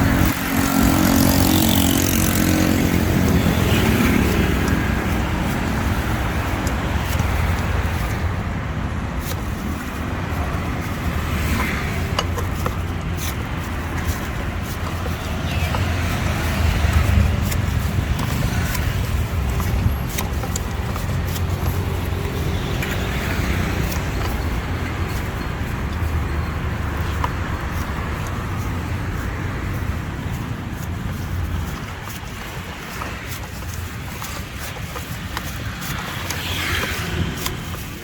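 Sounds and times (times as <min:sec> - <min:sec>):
low rumble of cars: 0:00.0 - 0:38.0.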